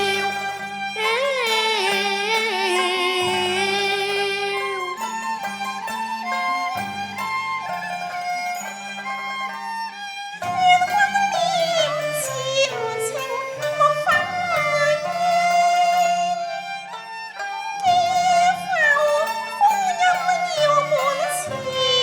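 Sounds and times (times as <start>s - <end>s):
opera ensemble with bowed strings: 0.0s - 22.0s.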